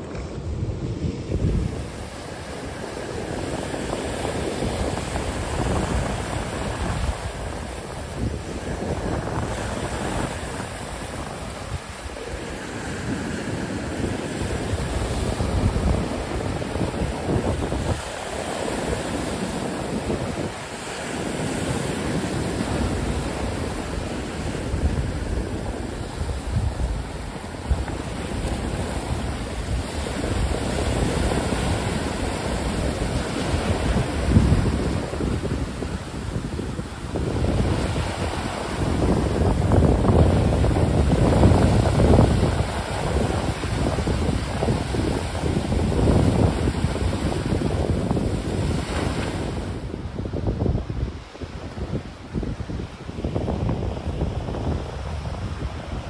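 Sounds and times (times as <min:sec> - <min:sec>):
surf rushing on beach: 0:00.0 - 0:56.0
wind buffeting microphone: 0:00.0 - 0:56.0.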